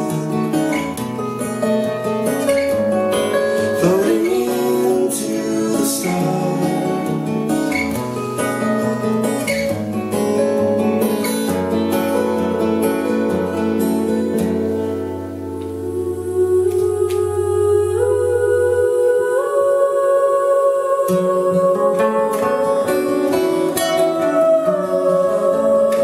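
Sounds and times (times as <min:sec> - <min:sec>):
acoustic guitars playing: 0:00.0 - 0:26.0.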